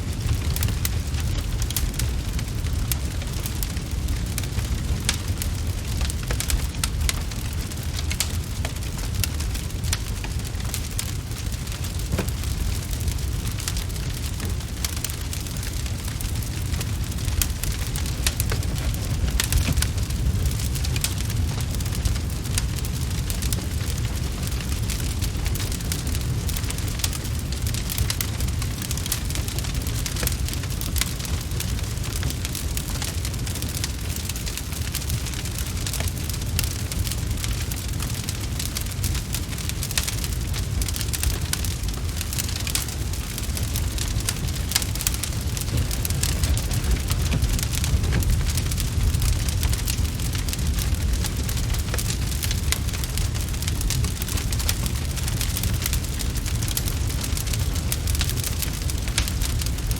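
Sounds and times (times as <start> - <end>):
steady low rumble: 0.0 - 34.0, 35.7 - 59.9
wood fire crackling: 0.0 - 59.9.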